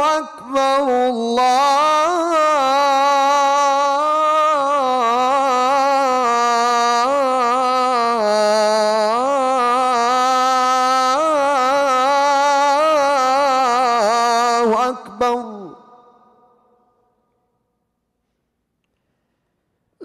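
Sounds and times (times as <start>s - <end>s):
man calling the call to prayer: 0.0s - 16.3s.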